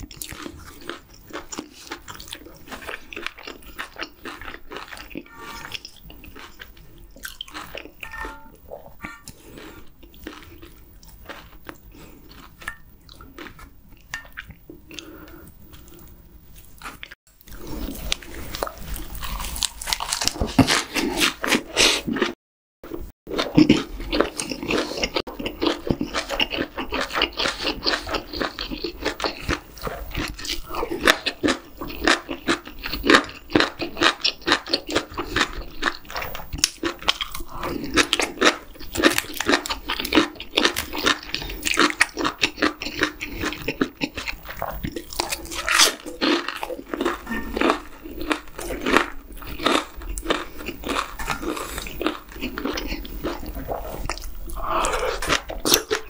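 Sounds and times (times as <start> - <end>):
crunchy wet chewing: 0.0 - 8.0, 9.0 - 56.0.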